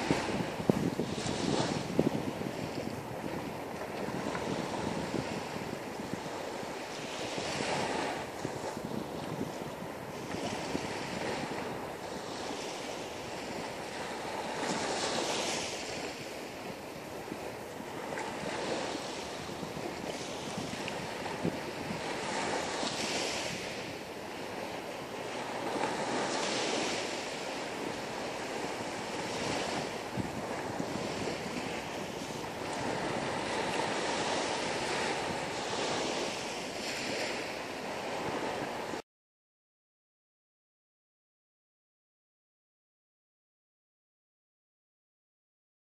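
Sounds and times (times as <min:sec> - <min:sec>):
sea waves washing onto beach: 0:00.0 - 0:39.0
wind on microphone: 0:00.0 - 0:39.0.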